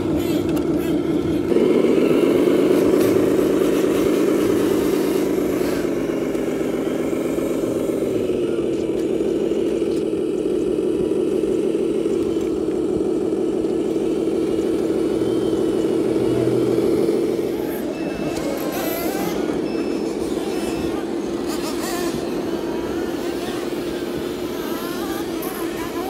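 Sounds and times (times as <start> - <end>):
toy truck motor hum: 0.0 - 26.0.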